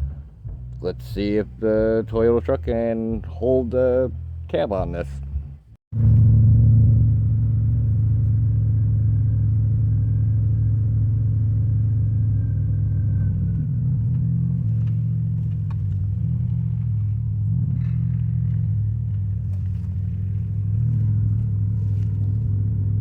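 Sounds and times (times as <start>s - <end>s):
pickup truck engine running: 0.0s - 23.0s.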